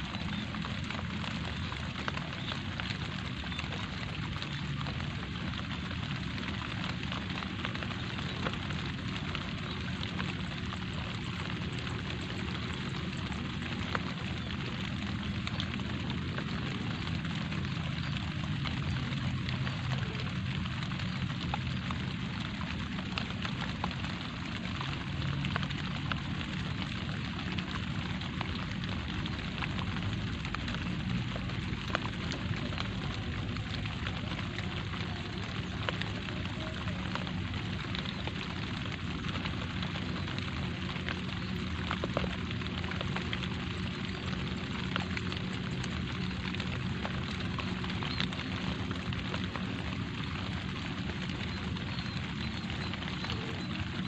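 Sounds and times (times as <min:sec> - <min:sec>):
light rain pattering: 0:00.0 - 0:54.0
low rain rumble: 0:00.0 - 0:54.0.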